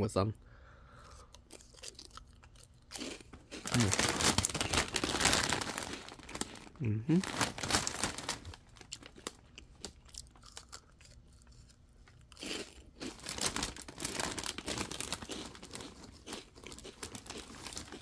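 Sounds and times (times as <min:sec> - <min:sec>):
crunchy snack being chewed: 0:01.3 - 0:08.0, 0:08.8 - 0:18.0
plastic snack bag crinkling: 0:01.6 - 0:11.6, 0:12.3 - 0:18.0.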